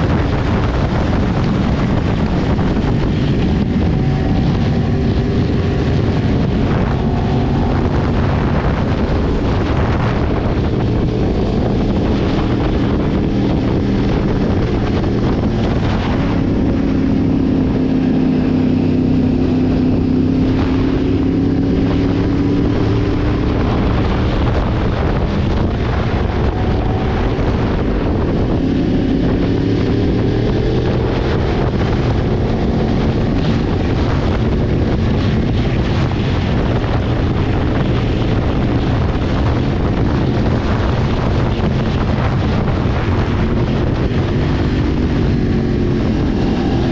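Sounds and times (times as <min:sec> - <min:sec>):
motorcycle engine running: 0:00.0 - 0:46.9
wind noise on microphone: 0:00.0 - 0:46.9.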